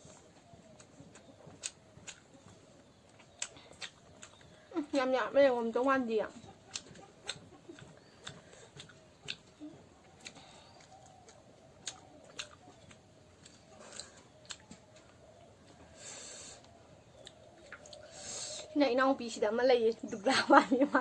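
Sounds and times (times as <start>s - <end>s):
person chewing with clicks and smacks: 0.0s - 5.0s, 5.7s - 18.7s.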